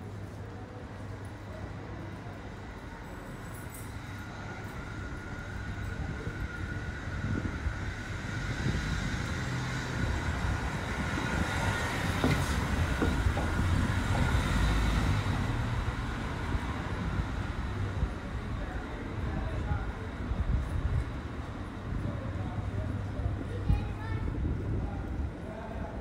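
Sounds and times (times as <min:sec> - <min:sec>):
large engine rumbling: 0:00.0 - 0:26.0.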